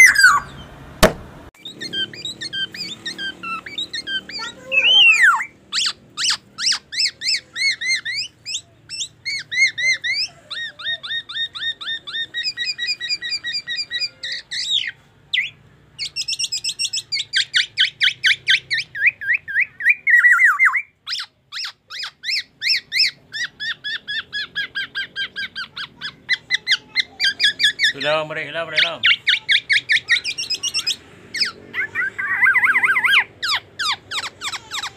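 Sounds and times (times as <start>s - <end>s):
bird singing fast song: 0.0s - 0.8s, 1.6s - 34.9s.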